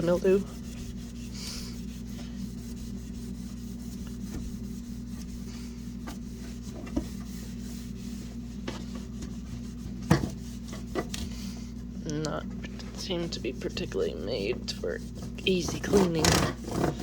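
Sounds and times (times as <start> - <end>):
cloth scrubbing plastic: 0.0 - 11.8, 12.7 - 17.0
steady low hum: 0.0 - 17.0.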